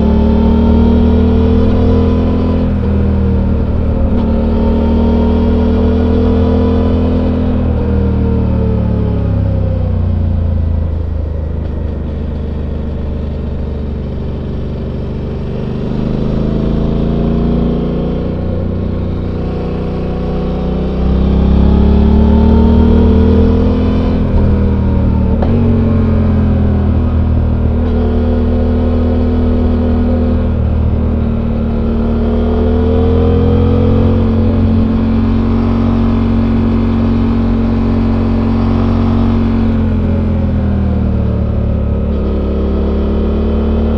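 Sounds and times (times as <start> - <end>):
motorcycle engine while riding: 0.0 - 43.9.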